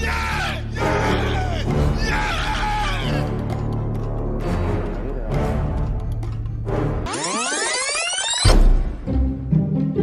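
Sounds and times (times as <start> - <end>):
dramatic film music: 0.0 - 10.0.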